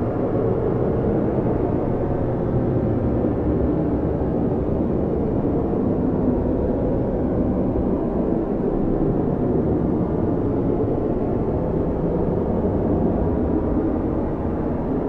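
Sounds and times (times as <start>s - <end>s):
strong blizzard wind: 0.0s - 15.0s.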